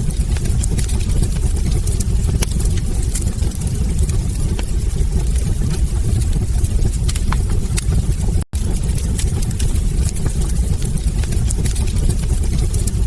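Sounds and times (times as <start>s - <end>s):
low rumble of burning logs: 0.0s - 13.0s
sharp pops and clicks: 0.0s - 13.0s
wood fire crackling: 0.0s - 13.0s.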